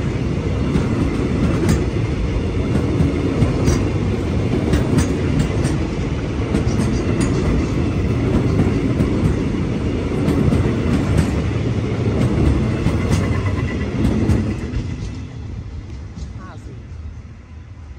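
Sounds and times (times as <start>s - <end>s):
train wheels rolling on rails: 0.0s - 17.9s.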